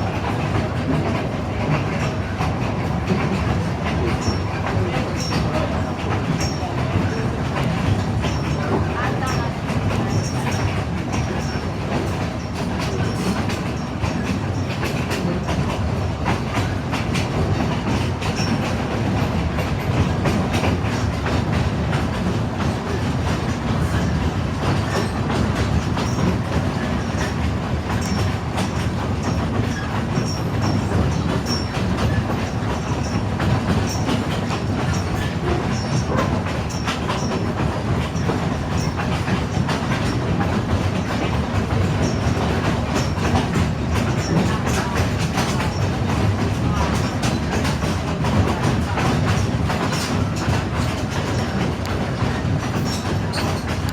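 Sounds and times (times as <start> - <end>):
train wheels rumbling on rails: 0.0 - 53.9
clicks from rail joints: 0.2 - 53.9.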